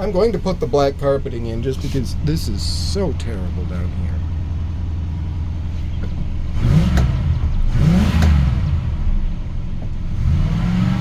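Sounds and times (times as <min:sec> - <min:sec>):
pickup engine idling and revving: 0:00.0 - 0:11.0.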